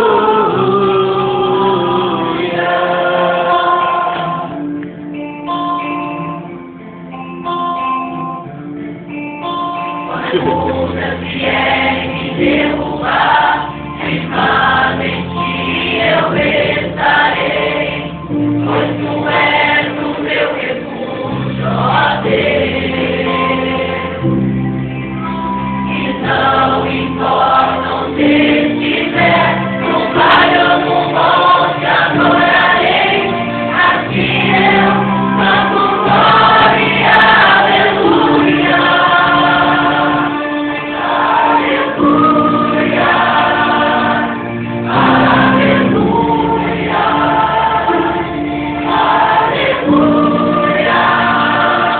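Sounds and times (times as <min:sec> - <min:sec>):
choir singing a gospel song: 0:00.0 - 0:04.9, 0:10.0 - 0:51.9.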